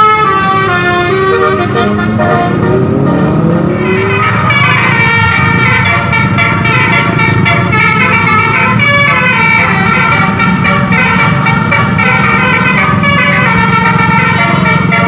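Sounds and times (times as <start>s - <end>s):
bus engine running: 0.0s - 15.0s
musical air horn melody: 0.0s - 15.0s.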